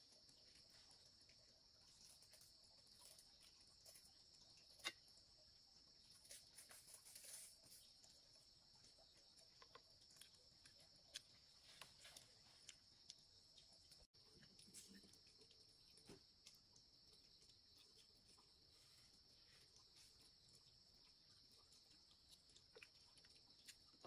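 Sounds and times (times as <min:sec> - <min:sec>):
high insect chorus: 0:00.0 - 0:24.0.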